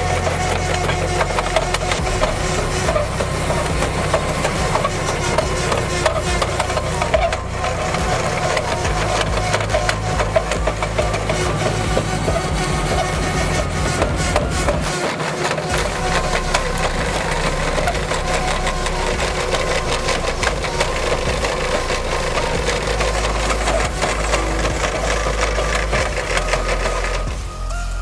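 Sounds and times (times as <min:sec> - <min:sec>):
machine engine running under load: 0:00.0 - 0:27.6.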